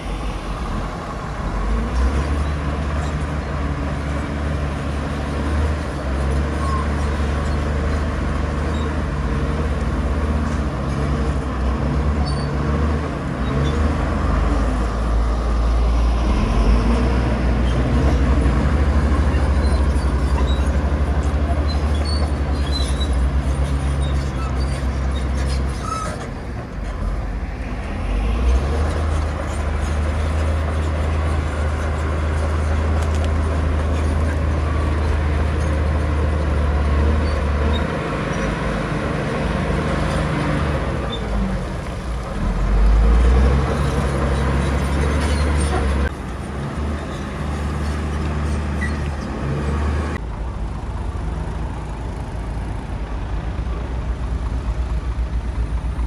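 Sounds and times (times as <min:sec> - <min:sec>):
bulldozer diesel engine working: 0:00.0 - 0:56.0.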